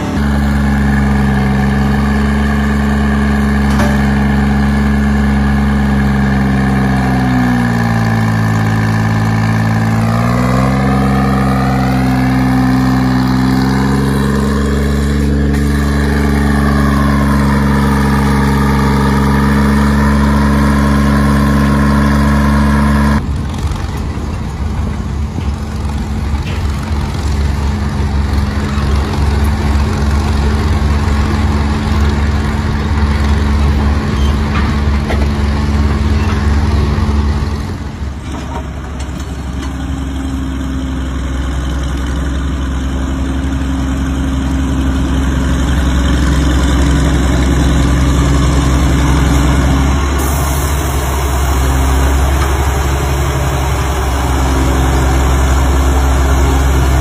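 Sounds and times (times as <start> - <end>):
crawler shovel engine running: 0.0 - 57.0
heavy machinery engines running: 0.0 - 57.0.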